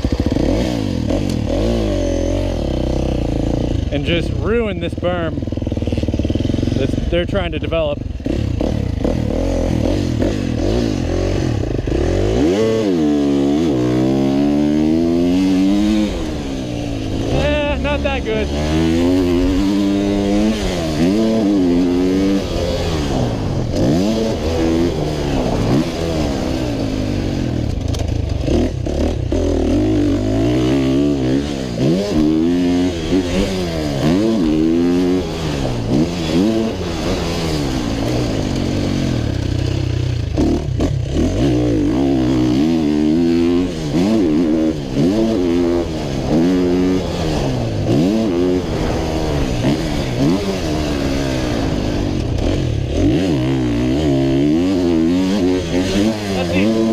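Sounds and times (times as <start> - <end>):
low wind rumble: 0.0 - 41.2, 42.2 - 56.9
motocross bike engine revving: 0.0 - 56.9.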